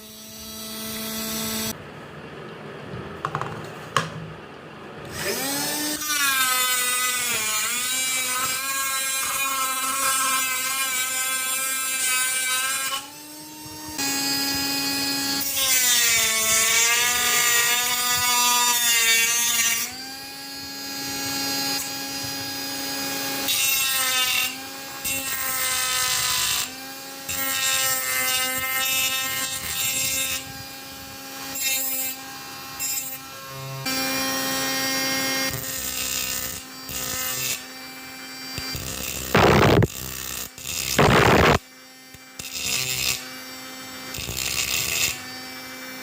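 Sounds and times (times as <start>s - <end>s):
angle grinder whining and grinding: 5.0s - 46.0s.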